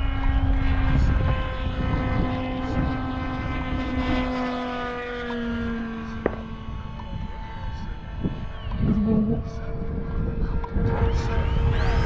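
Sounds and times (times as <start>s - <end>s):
model airplane engine buzzing: 0.0s - 12.0s
wind rumble on microphone: 0.0s - 12.0s.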